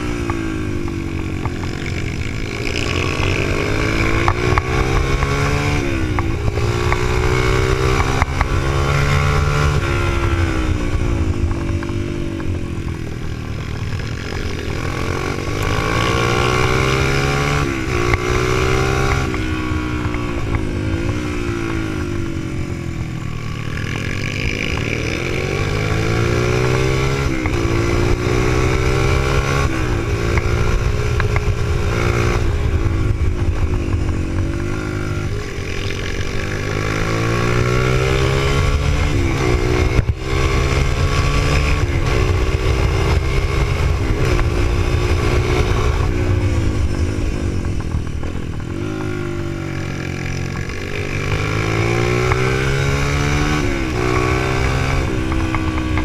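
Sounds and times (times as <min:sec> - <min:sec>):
motorcycle engine revving: 0:00.0 - 0:56.0
wind rushing over microphone: 0:00.0 - 0:56.0.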